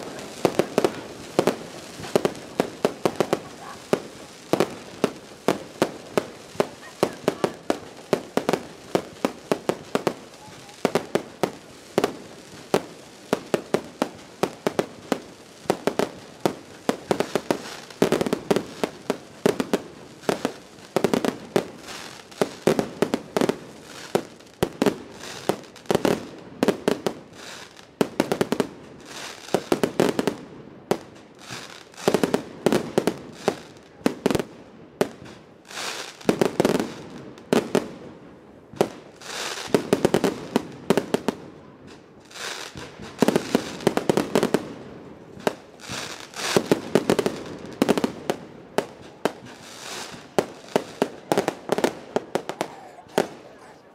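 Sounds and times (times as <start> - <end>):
fireworks bangs: 0.0 - 53.9.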